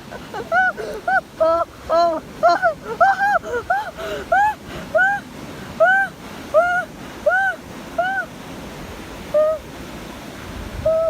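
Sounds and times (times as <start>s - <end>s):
surf washing: 0.0s - 11.0s.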